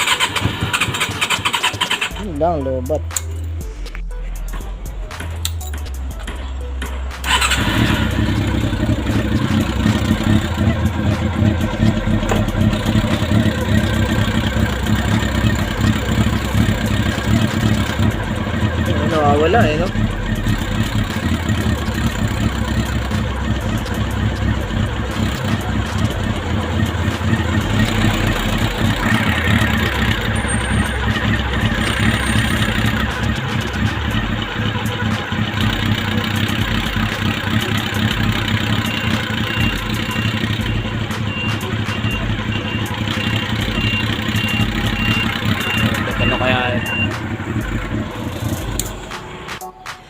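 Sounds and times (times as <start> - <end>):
engine rattle: 0.0 - 3.7, 4.3 - 49.7
light irregular ticking: 0.0 - 50.0
motorcycle engine idling: 0.0 - 50.0.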